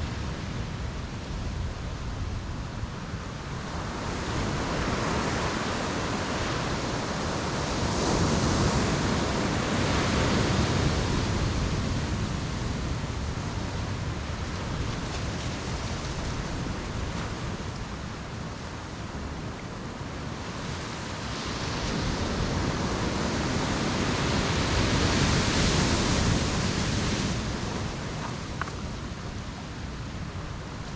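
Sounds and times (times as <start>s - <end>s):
ocean surf breaking: 3.6s - 30.9s.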